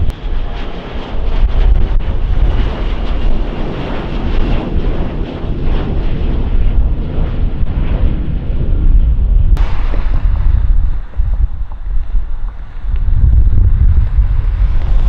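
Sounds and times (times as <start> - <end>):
jet engine low rumble: 0.0 - 15.0
wind buffeting microphone: 0.0 - 15.0.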